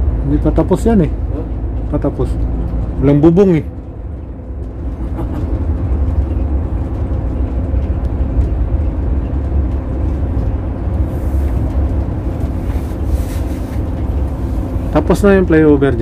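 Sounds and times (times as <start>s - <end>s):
engine and road rumble: 0.0s - 16.0s
faint engine drone: 0.0s - 16.0s.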